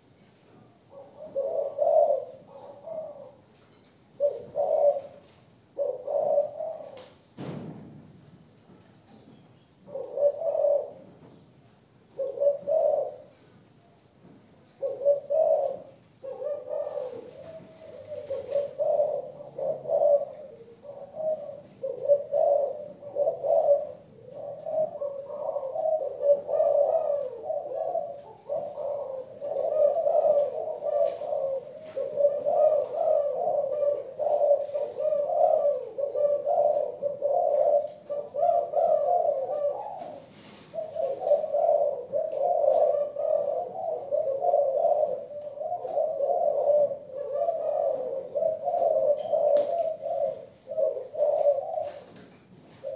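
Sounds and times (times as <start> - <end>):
dove cooing: 0.0 - 7.4, 8.6 - 52.9.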